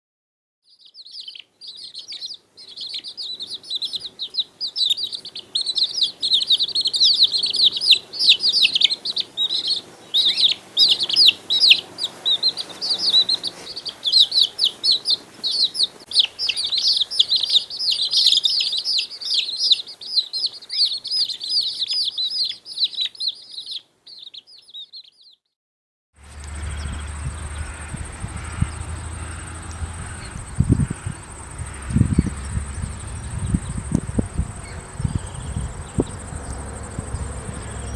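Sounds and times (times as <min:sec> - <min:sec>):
small birds chirping: 0:00.7 - 0:25.5, 0:26.3 - 0:37.9.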